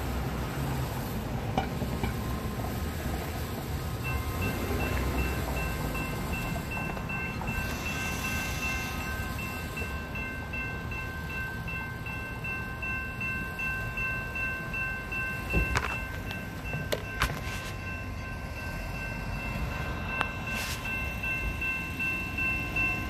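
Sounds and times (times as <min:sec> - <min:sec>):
railroad crossing bell ringing: 0:00.0 - 0:23.0.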